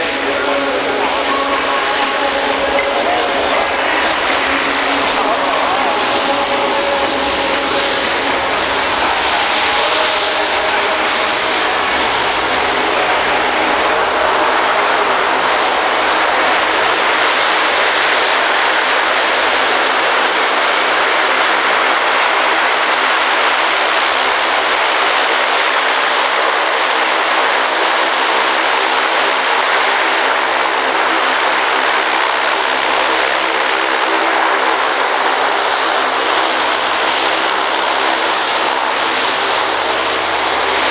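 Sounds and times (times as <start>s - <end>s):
turboprop aircraft taxiing: 0.0s - 40.9s.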